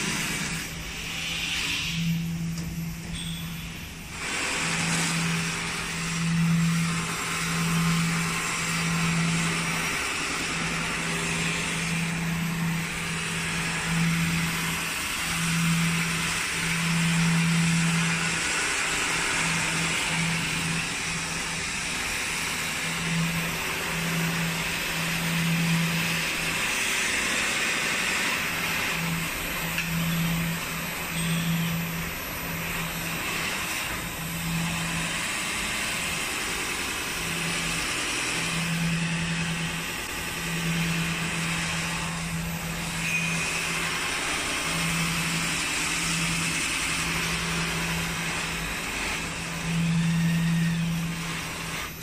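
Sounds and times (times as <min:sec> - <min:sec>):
low machine hum: 0:00.0 - 0:52.0
sanding belt grinding metal: 0:03.6 - 0:52.0.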